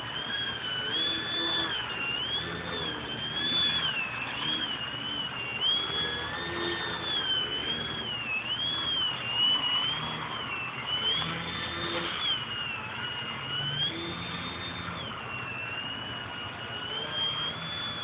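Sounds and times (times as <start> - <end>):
model plane propeller whine: 0.0 - 18.0.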